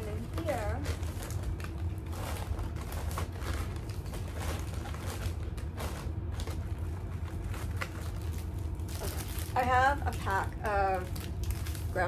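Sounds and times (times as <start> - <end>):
plastic snack packages rustling: 0.0 - 12.0
steady low hum: 0.0 - 12.0.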